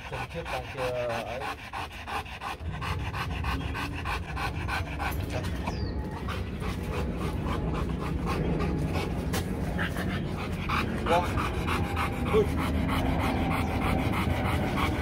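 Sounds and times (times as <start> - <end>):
dog panting: 0.0 - 15.0
low rumble: 1.9 - 15.0.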